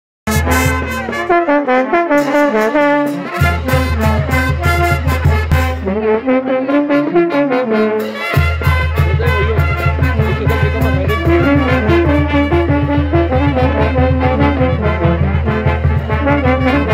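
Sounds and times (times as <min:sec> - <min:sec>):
bass and drums: 0:00.3 - 0:01.4, 0:02.2 - 0:06.0, 0:08.1 - 0:16.9
brass band music: 0:00.3 - 0:16.9.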